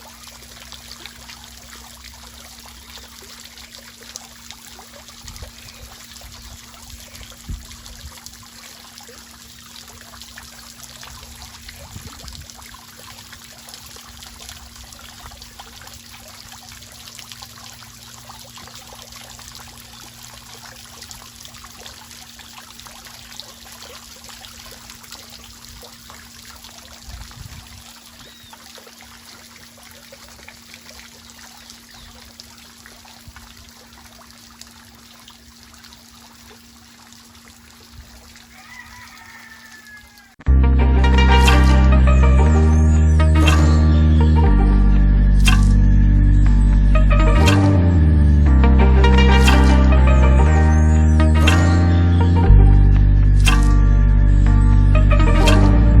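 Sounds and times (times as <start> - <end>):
water trickling: 0.0 - 40.4, 49.0 - 56.0.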